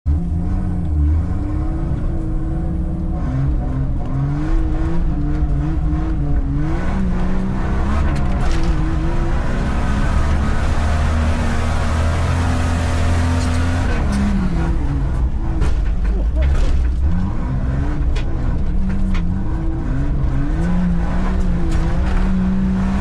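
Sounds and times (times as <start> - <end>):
car engine revving: 0.1 - 23.0.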